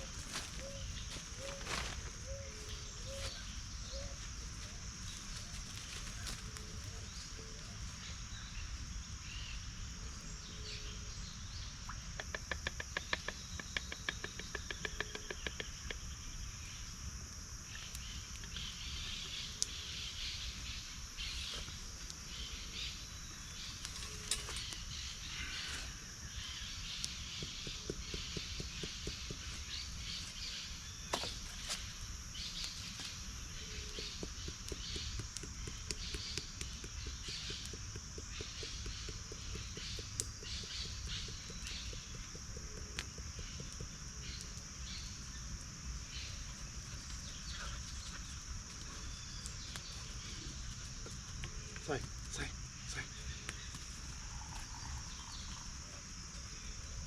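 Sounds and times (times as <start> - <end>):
chirps: 10.2 - 16.8, 17.7 - 57.0.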